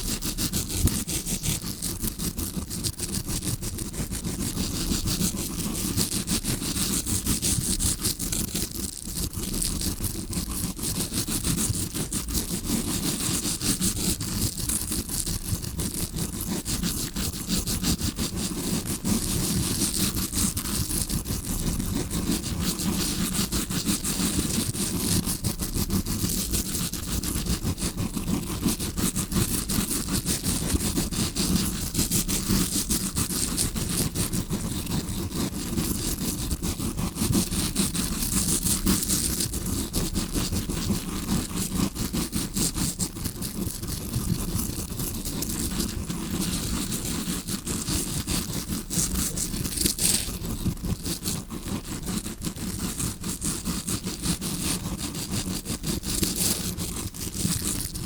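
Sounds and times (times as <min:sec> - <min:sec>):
brush scratching microphone: 0:00.0 - 0:58.0.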